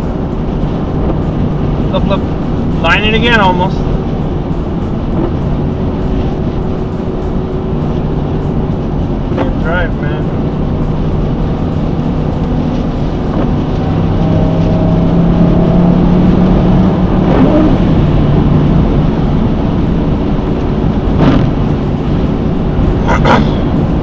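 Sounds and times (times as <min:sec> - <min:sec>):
car engine: 0:00.0 - 0:24.0
tyre road noise: 0:00.0 - 0:24.0.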